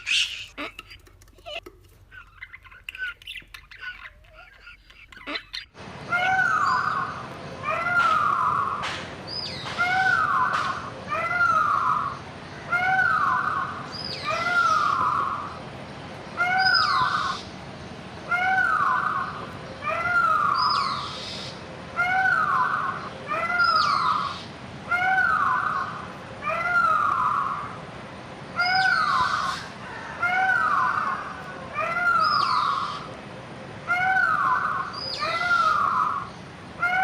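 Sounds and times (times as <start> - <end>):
bird calling: 0.0 - 17.6, 18.2 - 27.8, 28.6 - 33.2, 33.8 - 37.0.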